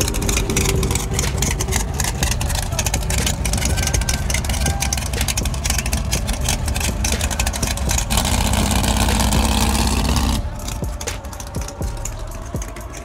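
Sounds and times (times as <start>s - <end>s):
car engine low choppy rumble: 0.0s - 13.0s.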